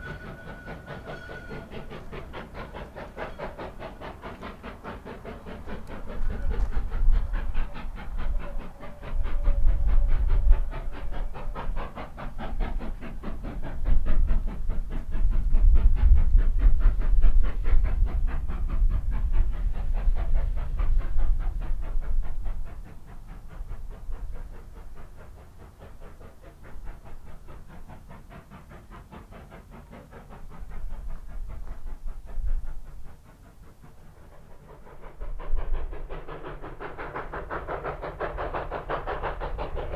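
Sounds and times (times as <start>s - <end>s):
rail noise: 0.0s - 39.9s
steam hiss: 0.0s - 39.9s
steam locomotive chuffing: 0.0s - 39.9s.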